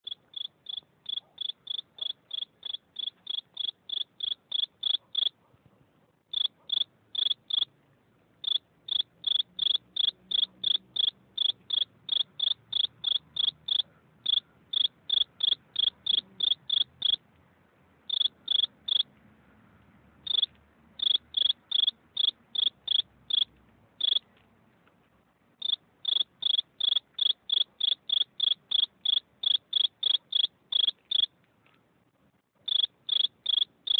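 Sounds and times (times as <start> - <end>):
cricket chirping: 0.0 - 5.4, 6.3 - 7.7, 8.4 - 17.2, 18.1 - 19.1, 20.2 - 24.2, 25.6 - 31.3, 32.6 - 33.9.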